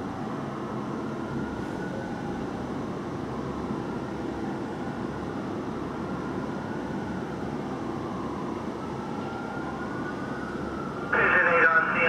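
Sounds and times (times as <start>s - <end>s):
city street traffic rumble: 0.0s - 12.0s
distant siren wail: 0.0s - 12.0s
fire engine pulling away: 0.0s - 12.0s.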